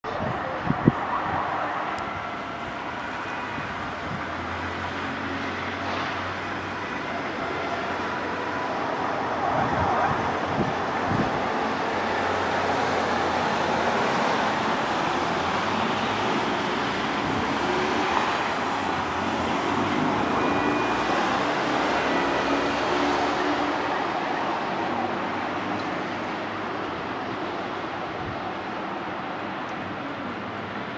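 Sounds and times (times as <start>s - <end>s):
traffic rumble: 0.0s - 30.9s.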